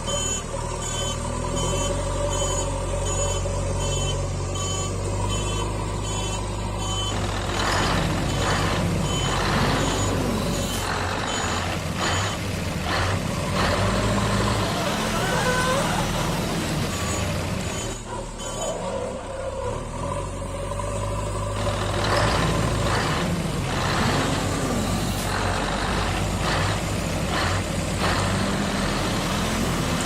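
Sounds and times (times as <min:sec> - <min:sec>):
truck reversing alarm beeping: 0:00.0 - 0:30.0.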